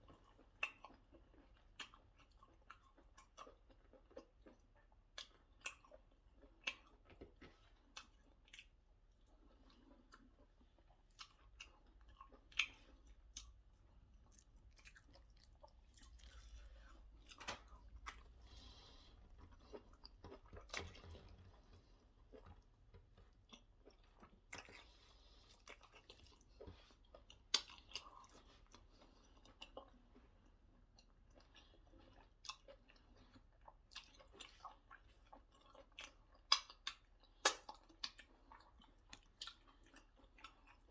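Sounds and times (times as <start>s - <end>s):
soft wet chewing: 0.0s - 40.9s.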